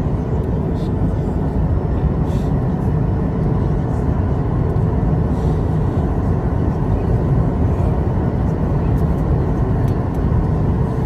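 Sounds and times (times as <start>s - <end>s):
jet engine drone in cabin: 0.0s - 11.0s.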